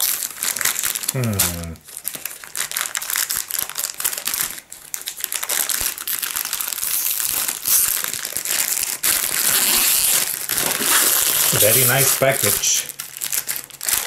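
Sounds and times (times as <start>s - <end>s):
plastic wrapper crinkling: 0.0s - 14.0s.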